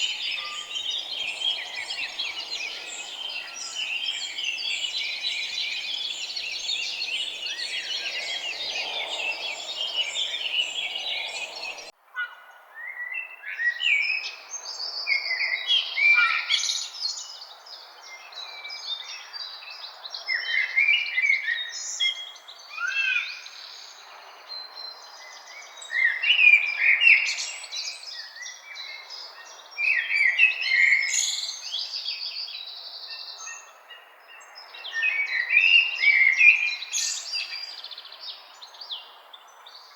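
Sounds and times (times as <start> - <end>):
songbirds singing and chirping: 0.0 - 11.9, 12.8 - 39.9.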